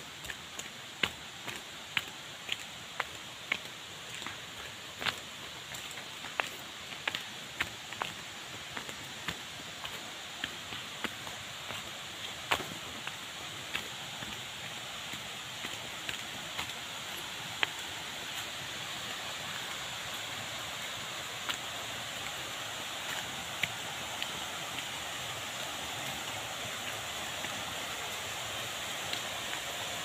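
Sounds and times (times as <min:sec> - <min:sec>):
water rushing in rocky stream: 0:00.0 - 0:30.0.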